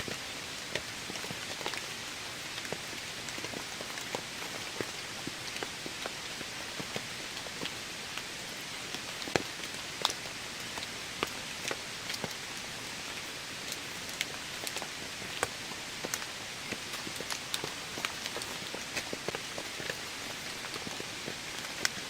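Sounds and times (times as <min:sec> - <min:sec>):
heavy raindrops ticking: 0:00.0 - 0:22.0
steady rain falling: 0:00.0 - 0:22.0.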